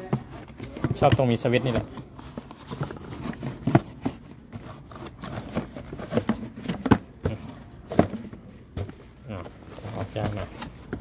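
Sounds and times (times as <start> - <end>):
cardboard box rustling: 0.0 - 11.0.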